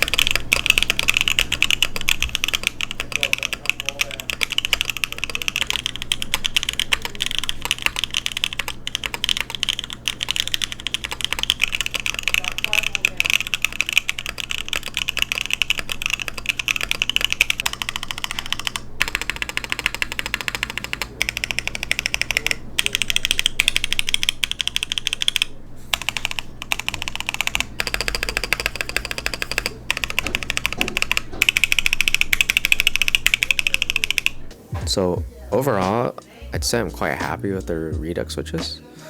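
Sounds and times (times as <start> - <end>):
mechanical keyboard typing: 0.0 - 34.6.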